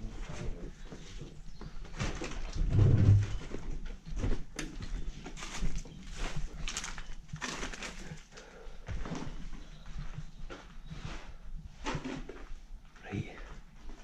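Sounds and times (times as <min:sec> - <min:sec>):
footsteps over rubble: 0:00.1 - 0:14.0.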